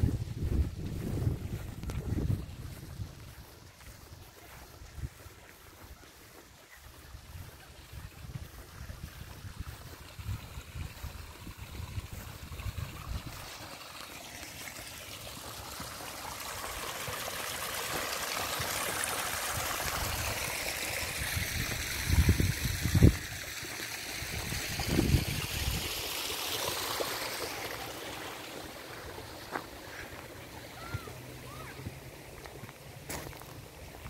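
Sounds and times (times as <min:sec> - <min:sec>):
water trickling over rocks: 0:00.0 - 0:34.0.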